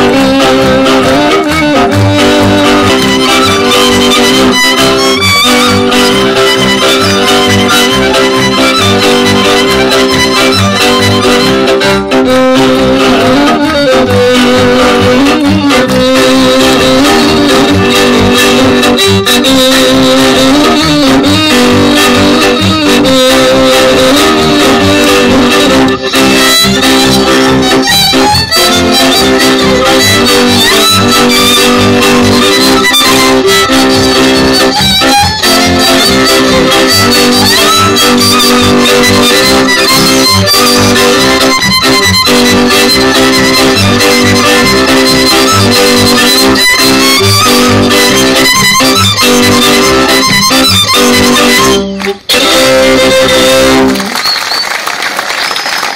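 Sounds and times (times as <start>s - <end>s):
fiddle-led string band folk music: 0.0s - 55.9s.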